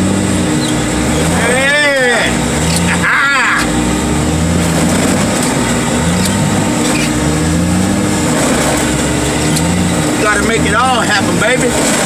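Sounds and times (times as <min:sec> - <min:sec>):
heavy machinery engine under load: 0:00.0 - 0:12.0.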